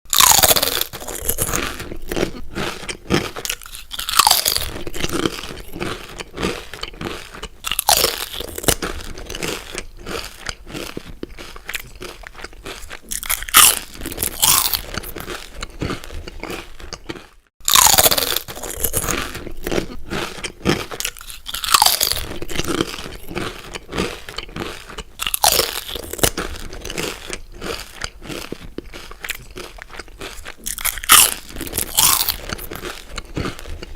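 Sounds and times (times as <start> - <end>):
crunchy chewing: 0.1 - 33.9.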